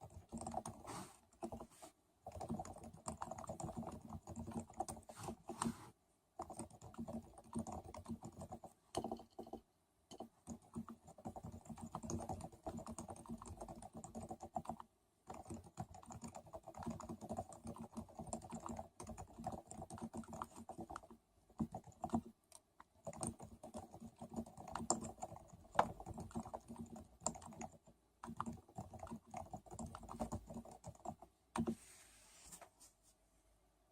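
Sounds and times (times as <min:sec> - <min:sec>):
quiet keyboard typing: 0:00.0 - 0:05.8, 0:06.4 - 0:31.8.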